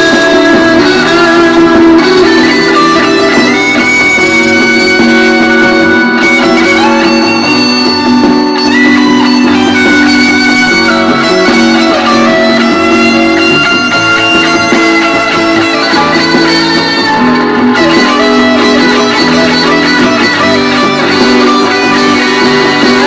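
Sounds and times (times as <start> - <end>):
electric guitar sliding notes: 0.0 - 23.0.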